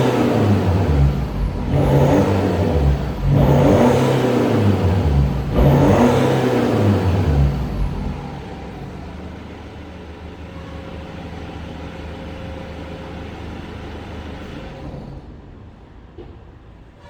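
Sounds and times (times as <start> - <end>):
diesel car exhaust drone: 0.0 - 15.2.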